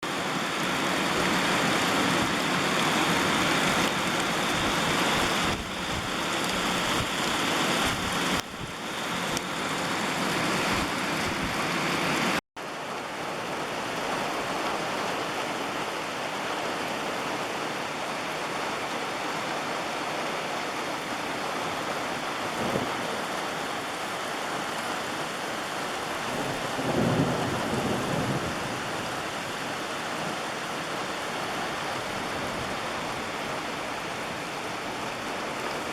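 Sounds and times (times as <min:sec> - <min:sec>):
heavy rain falling: 0:00.0 - 0:35.9.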